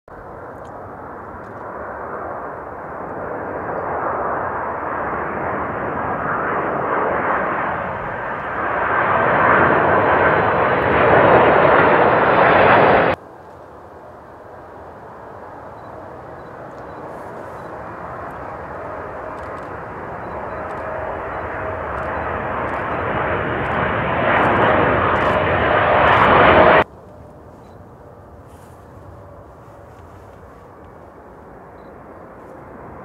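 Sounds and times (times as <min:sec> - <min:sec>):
distant jet rush: 0:00.1 - 0:33.0
jet airliner passing overhead: 0:00.2 - 0:33.0.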